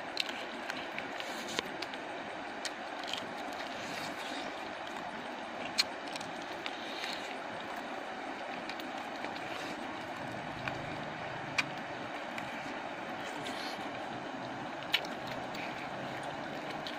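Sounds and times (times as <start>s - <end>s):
crunchy chewing clicks: 0.0s - 14.1s, 14.7s - 16.9s.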